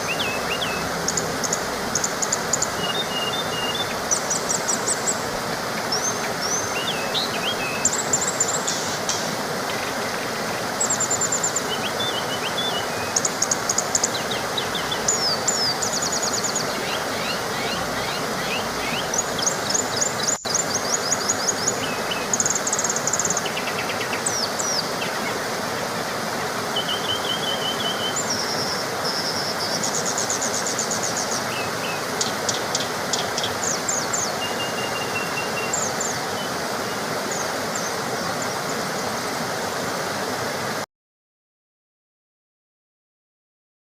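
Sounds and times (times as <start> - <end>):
birds chirping and trilling: 0.0 - 39.3
small waterfall rushing: 0.0 - 40.9.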